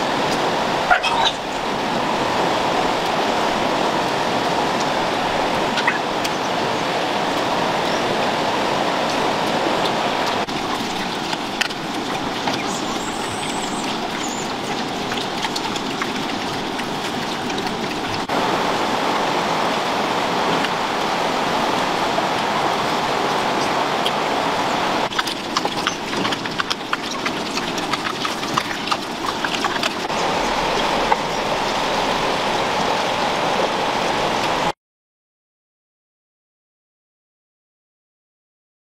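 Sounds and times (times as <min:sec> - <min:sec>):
pigs eating with wet smacks: 0:00.0 - 0:18.4, 0:19.1 - 0:34.7
stream rushing: 0:00.0 - 0:34.8.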